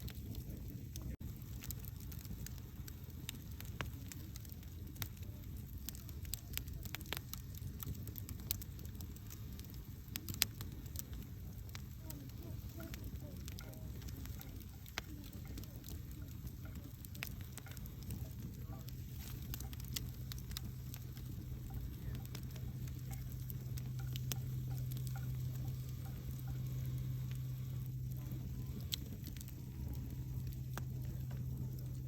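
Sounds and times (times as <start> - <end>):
burning wood crackling and popping: 0.0 - 32.0
campfire flames rumbling: 0.0 - 32.0.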